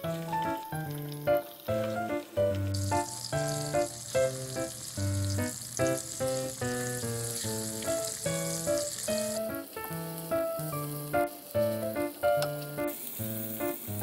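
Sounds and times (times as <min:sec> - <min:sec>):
light background music: 0:00.0 - 0:14.0
tofu sizzling in oil: 0:00.0 - 0:14.0.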